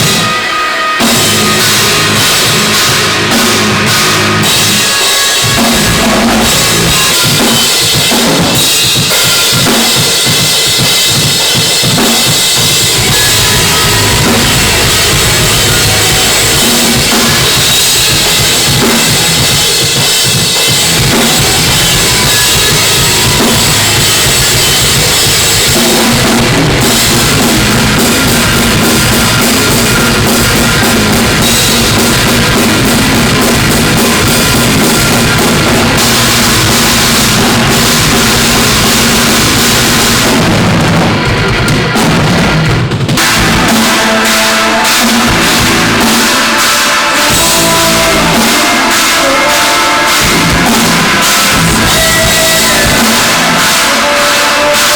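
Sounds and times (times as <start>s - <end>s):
cymbals: 0.0s - 54.9s
metalcore band playing: 0.0s - 54.9s
bass drum: 1.0s - 9.1s, 10.3s - 44.2s, 45.1s - 46.4s, 47.2s - 48.8s, 50.1s - 53.9s.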